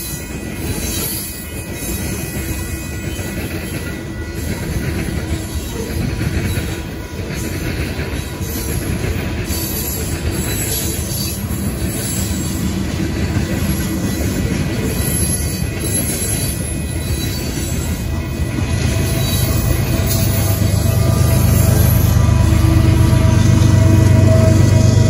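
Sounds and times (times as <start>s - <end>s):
freight train rumbling past: 0.0s - 25.0s
steel wheels clattering on rails: 0.0s - 25.0s.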